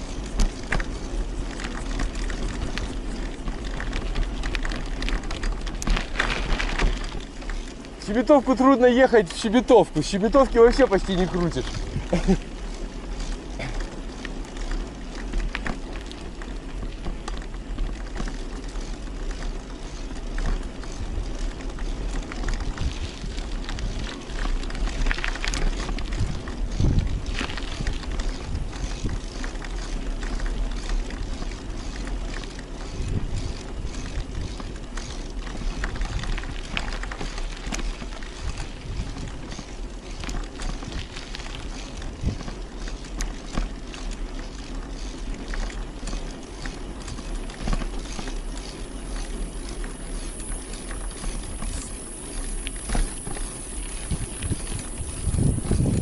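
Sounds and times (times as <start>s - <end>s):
bicycle rolling noise: 0.0s - 56.0s
small clicks and rattles: 0.0s - 56.0s
wind rumbling on microphone: 0.0s - 56.0s.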